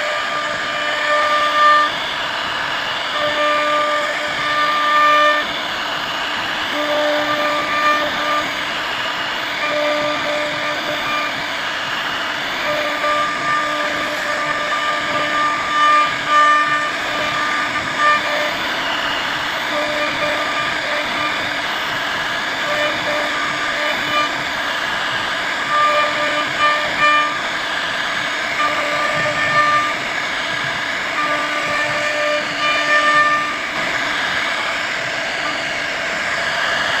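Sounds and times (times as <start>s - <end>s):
cnc router carving wood: 0.0s - 37.0s
short pitched machine whines: 0.0s - 37.0s.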